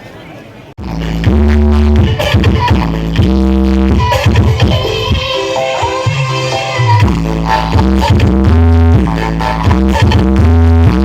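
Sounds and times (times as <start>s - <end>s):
heavy bass notes: 0.8s - 11.0s
loud electronic dance music: 0.8s - 11.0s.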